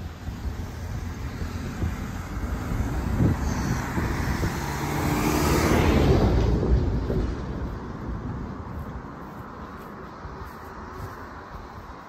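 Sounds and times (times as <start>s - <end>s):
lorry driving past: 0.3s - 10.9s.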